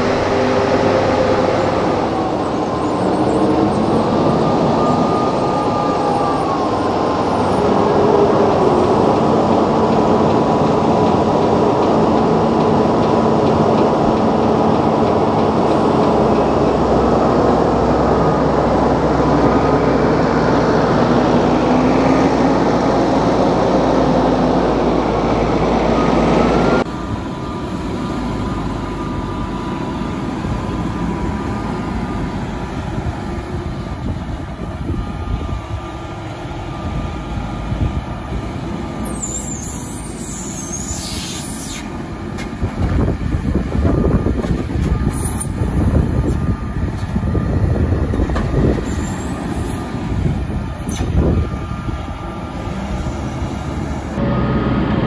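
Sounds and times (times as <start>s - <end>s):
tractor diesel engines running: 0.0s - 55.0s.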